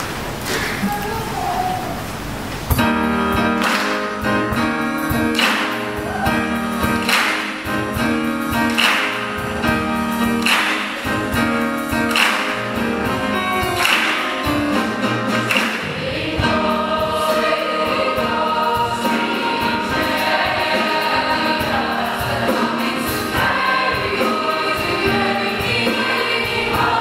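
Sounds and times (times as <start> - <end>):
piano and string ensemble: 0.0 - 27.0.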